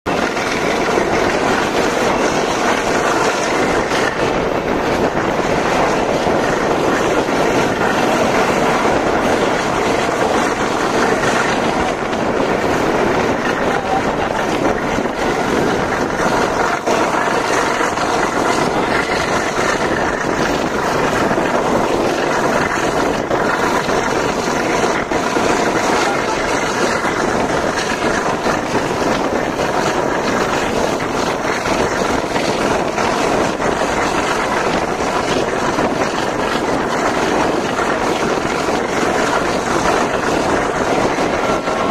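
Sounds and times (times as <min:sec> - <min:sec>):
rushing air: 0:00.0 - 0:41.9
train wheels on the track: 0:00.1 - 0:41.9.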